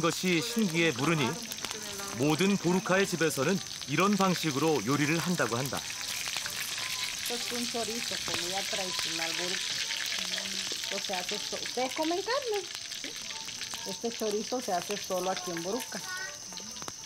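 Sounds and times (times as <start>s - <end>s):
food sizzling in a pan: 0.0s - 17.0s
wood fire crackling: 0.0s - 17.0s.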